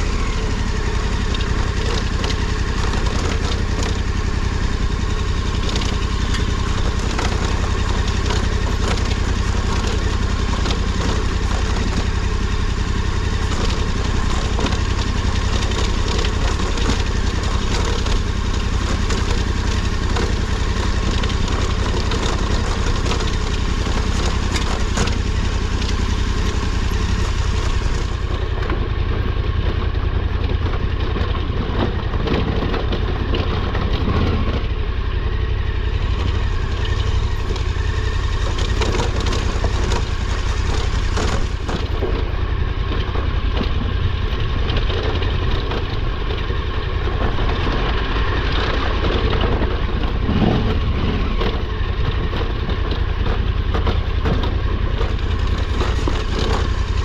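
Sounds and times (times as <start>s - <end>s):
motorcycle engine at low revs: 0.0s - 57.0s
tyres crunching over rocks: 0.0s - 57.0s.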